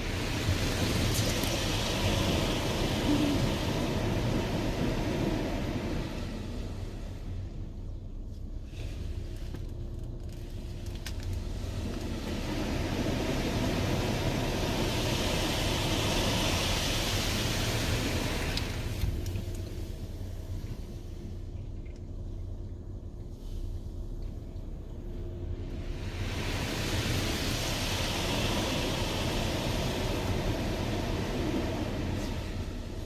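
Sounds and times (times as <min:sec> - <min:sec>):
car wash machine humming: 0:00.0 - 0:33.0.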